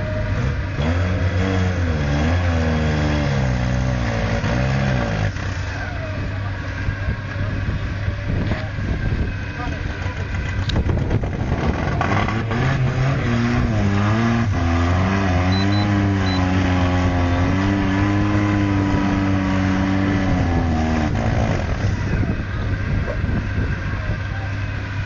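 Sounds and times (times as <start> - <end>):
engine revving under load: 0.0 - 25.0.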